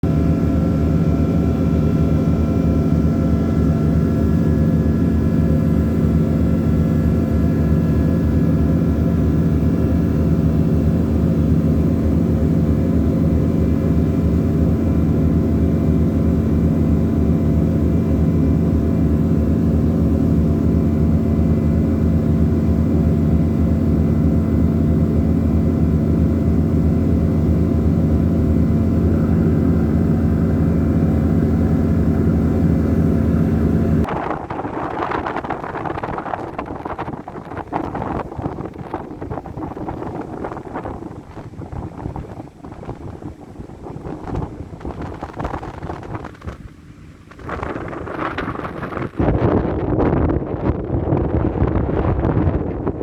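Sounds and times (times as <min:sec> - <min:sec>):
ship diesel engine drone: 0:00.0 - 0:49.4.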